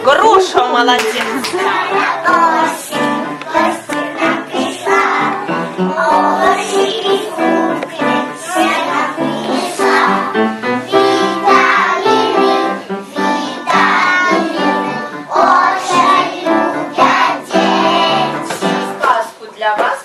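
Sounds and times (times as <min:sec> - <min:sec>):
musical accompaniment: 0:00.0 - 0:19.2
children singing: 0:01.4 - 0:18.9.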